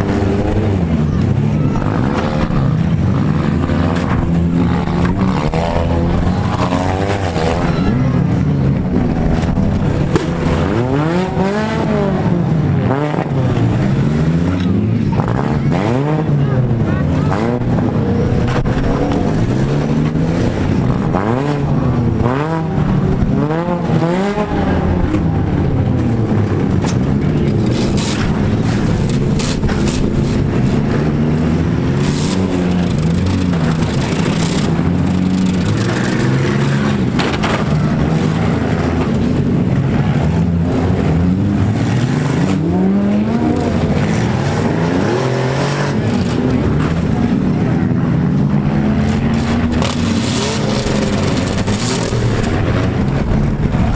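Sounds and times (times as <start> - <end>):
cars colliding: 0.0 - 15.9, 16.6 - 53.9
car engines revving: 0.0 - 53.9.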